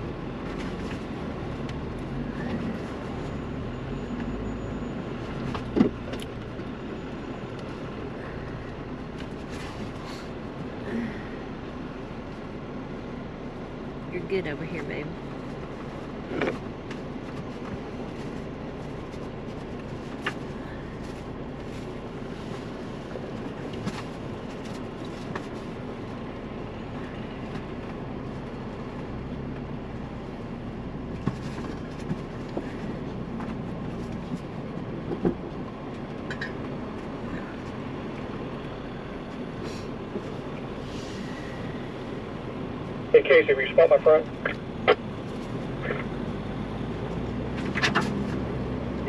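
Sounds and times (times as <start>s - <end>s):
low engine rumble: 0.0s - 49.0s.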